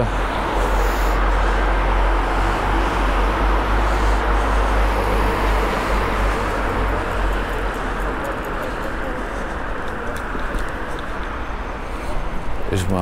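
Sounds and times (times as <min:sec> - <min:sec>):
car traffic passing: 0:00.0 - 0:13.0
wind and road rumble: 0:00.0 - 0:13.0.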